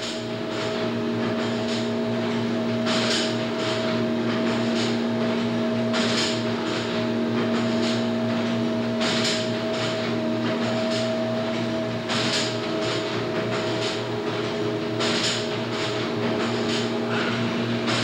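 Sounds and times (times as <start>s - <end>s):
machine humming with pulsing beat: 0.0s - 18.0s.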